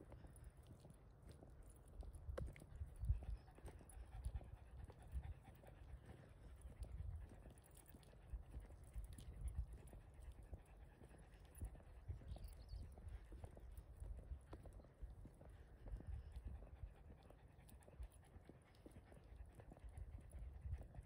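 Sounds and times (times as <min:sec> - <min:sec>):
dog panting: 0:02.8 - 0:21.0.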